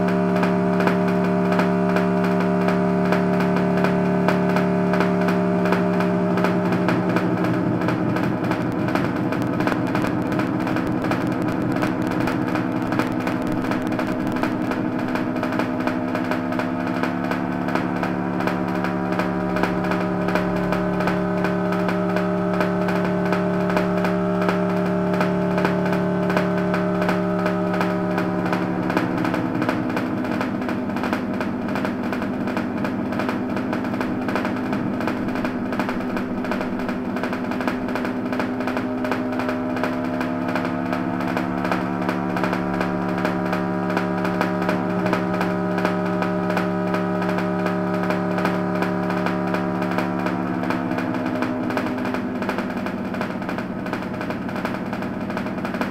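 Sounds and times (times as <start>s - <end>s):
constant crackle: 0.0s - 55.9s
distorted electronic drone: 0.0s - 55.9s.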